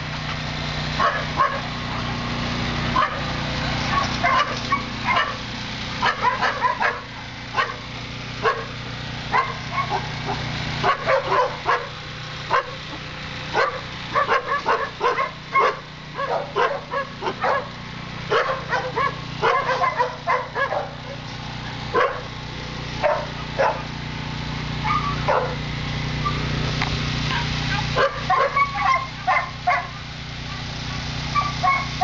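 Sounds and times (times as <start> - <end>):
steady low hum: 0.0 - 32.0
dogs barking and yipping: 0.9 - 2.2, 2.8 - 24.0, 24.7 - 32.0.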